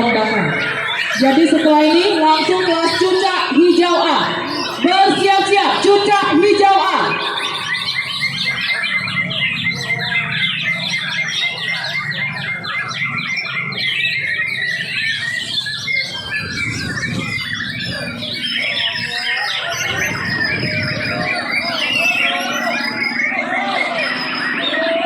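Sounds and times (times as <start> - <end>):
low background murmur: 0.0 - 25.0
songbirds chirping and whistling: 0.0 - 25.0.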